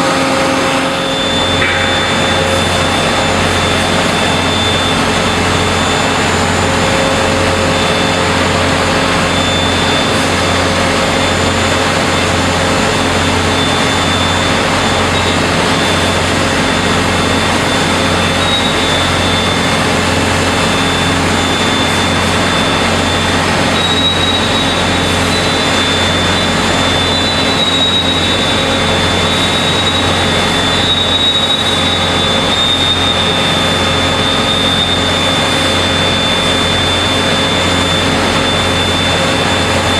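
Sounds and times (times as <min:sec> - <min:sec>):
heavy factory machinery din: 0:00.0 - 0:39.9.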